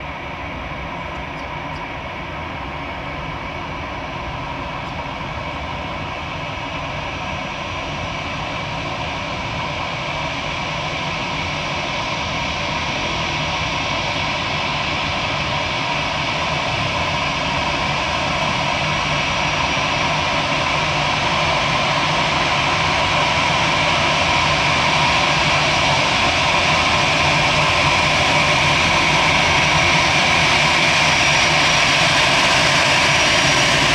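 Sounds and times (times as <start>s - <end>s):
jet engines whining: 0.1s - 33.9s.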